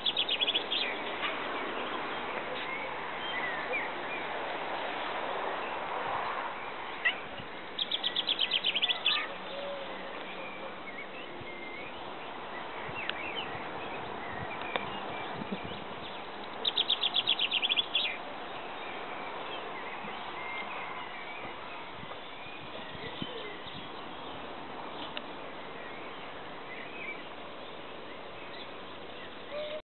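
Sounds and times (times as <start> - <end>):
background bird chirps: 0.0 - 29.8.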